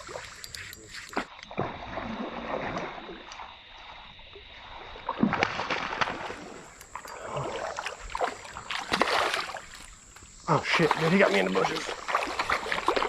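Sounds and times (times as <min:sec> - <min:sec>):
creek water splashing: 0:00.0 - 0:13.0.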